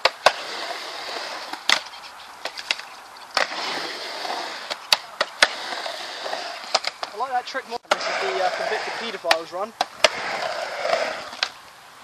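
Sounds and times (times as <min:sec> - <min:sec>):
skateboard clacks: 0:00.0 - 0:07.3, 0:07.9 - 0:11.6
skateboard wheels rolling on concrete: 0:00.0 - 0:12.0.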